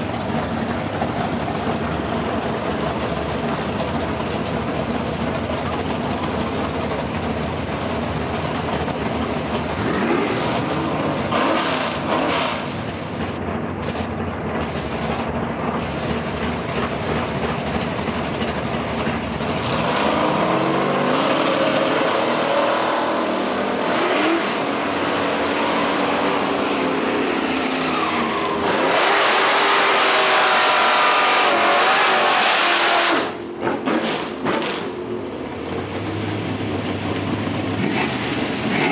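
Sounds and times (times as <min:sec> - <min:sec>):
engine running and revving: 0:00.0 - 0:38.9.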